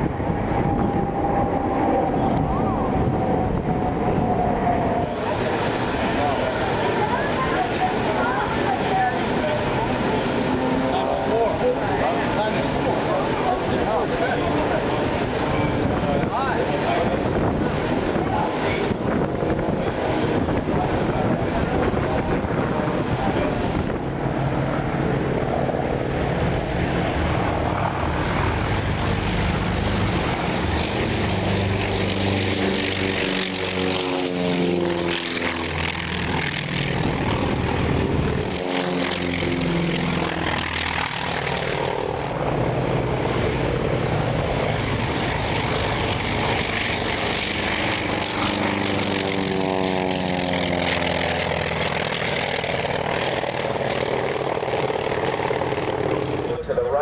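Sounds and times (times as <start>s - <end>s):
propeller planes droning past: 0.0s - 57.0s.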